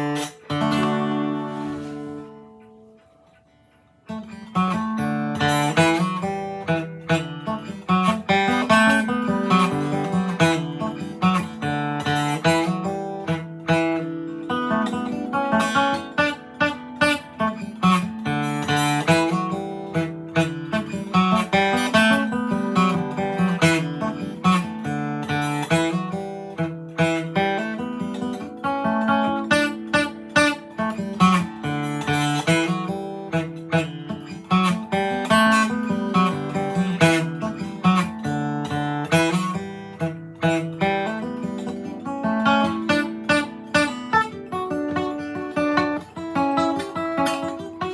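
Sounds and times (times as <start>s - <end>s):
acoustic guitar fiddle tune: 0.0s - 47.9s.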